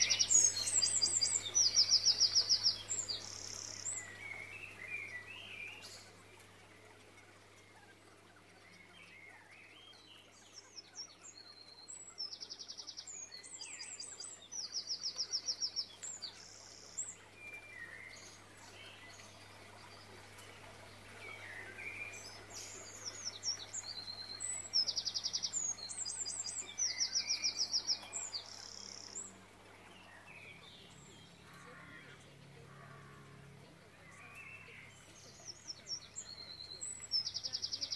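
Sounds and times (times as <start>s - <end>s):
birds chirping in high trills: 0.0s - 37.9s.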